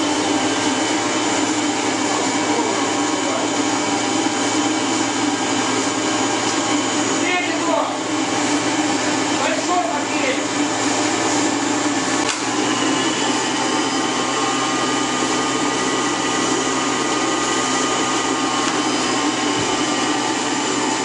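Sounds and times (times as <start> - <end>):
generator whining hum: 0.0 - 21.0.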